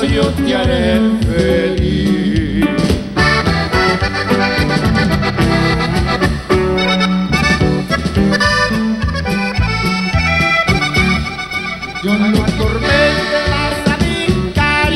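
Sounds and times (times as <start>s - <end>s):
drums: 0.0s - 14.9s
electric bass: 0.0s - 14.9s
guitar: 0.0s - 14.9s
button accordion melody: 2.8s - 14.9s.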